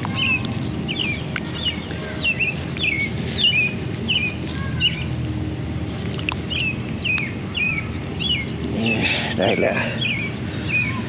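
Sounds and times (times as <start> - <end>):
steady low rumble: 0.0 - 11.0
bird chirping: 0.1 - 5.2, 6.0 - 11.0.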